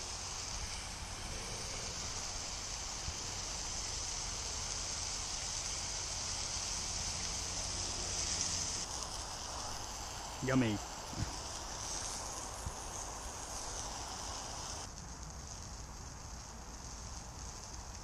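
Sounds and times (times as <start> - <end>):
burger sizzling in frying pan: 0.0 - 18.0
distant motorway traffic rumble: 0.0 - 18.0.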